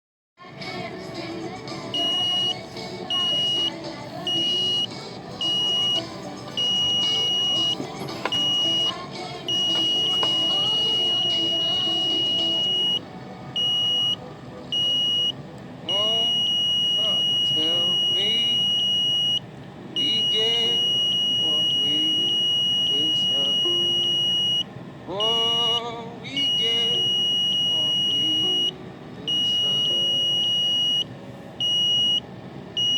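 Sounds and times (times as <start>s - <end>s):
microwave beeping: 1.9s - 32.9s.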